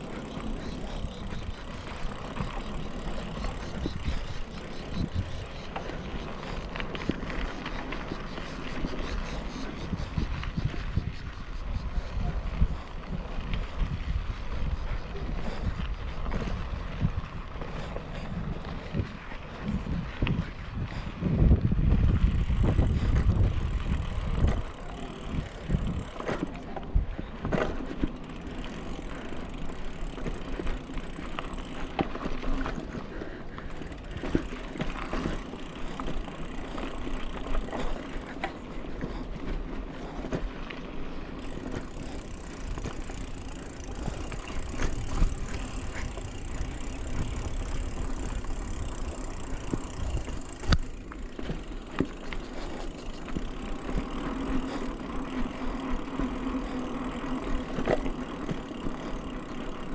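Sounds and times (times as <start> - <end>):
bike clicking and rattling: 0.0 - 59.9
bike tyres rumbling on dirt: 0.0 - 59.9.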